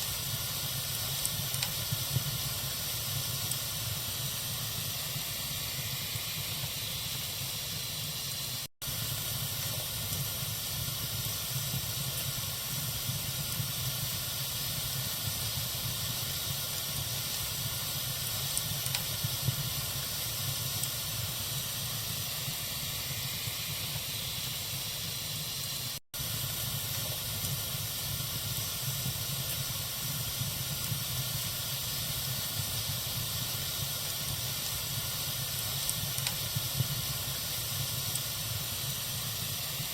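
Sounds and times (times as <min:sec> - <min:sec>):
campfire hissing and crackling: 0:00.0 - 0:39.9.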